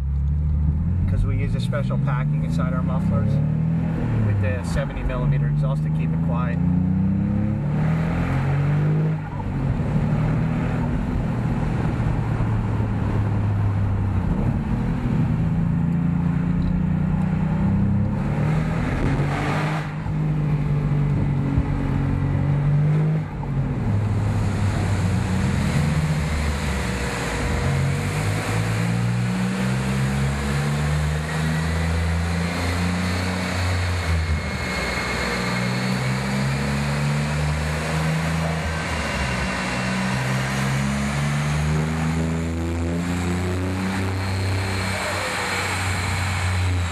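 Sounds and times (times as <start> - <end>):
car engine accelerating and shifting: 0.0 - 46.9.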